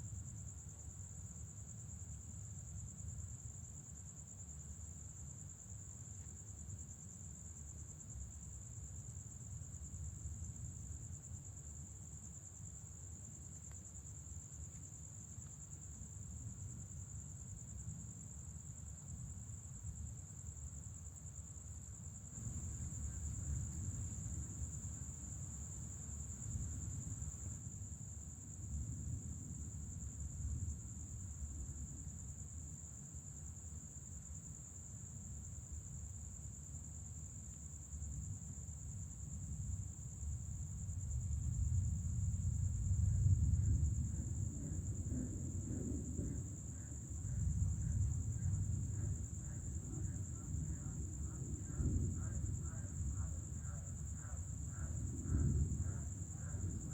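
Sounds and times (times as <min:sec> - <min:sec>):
crickets chirring: 0:00.0 - 0:56.9.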